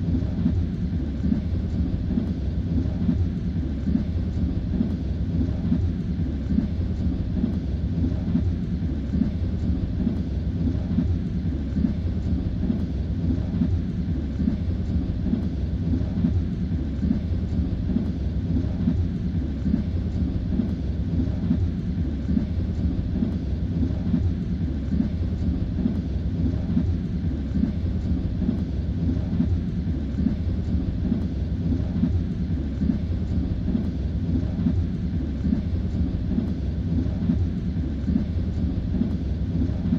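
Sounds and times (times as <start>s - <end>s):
train rumble inside carriage: 0.0s - 39.9s.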